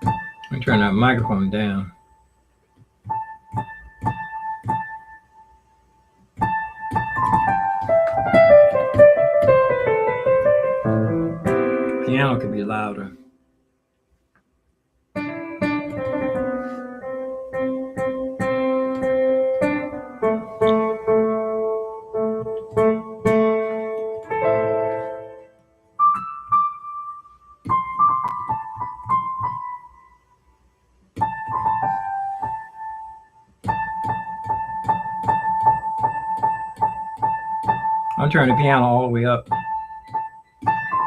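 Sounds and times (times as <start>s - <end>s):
digital piano playing: 0.0s - 2.5s, 3.1s - 13.4s, 15.2s - 41.0s.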